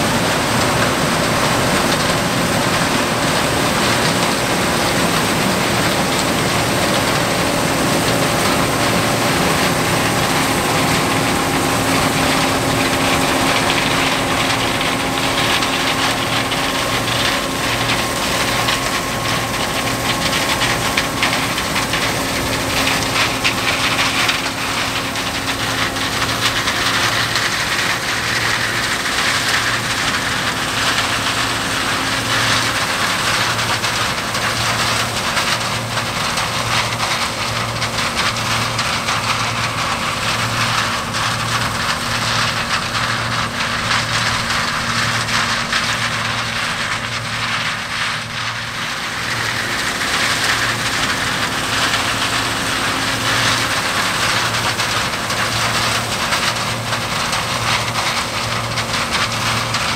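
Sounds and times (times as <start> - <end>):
diesel engine running: 0.0 - 59.9
threshing machinery whine: 0.0 - 59.9.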